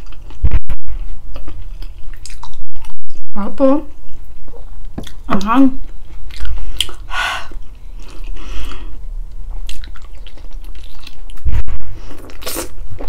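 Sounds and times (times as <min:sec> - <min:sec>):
close chewing and mouth sounds: 0:00.0 - 0:03.2, 0:03.9 - 0:13.0.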